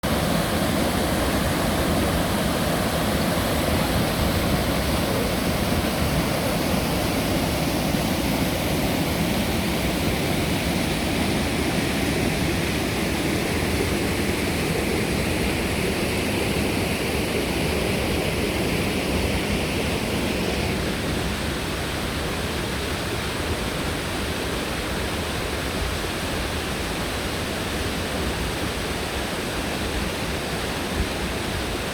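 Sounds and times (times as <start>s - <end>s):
running water rushing: 0.0s - 31.9s.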